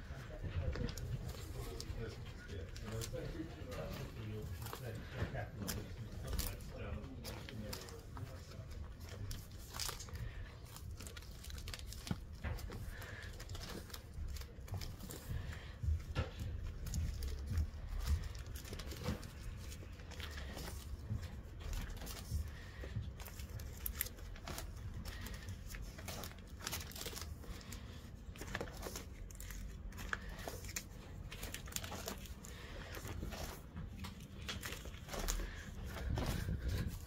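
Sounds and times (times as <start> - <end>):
plastic sleeves crinkling: 0.1 - 37.0.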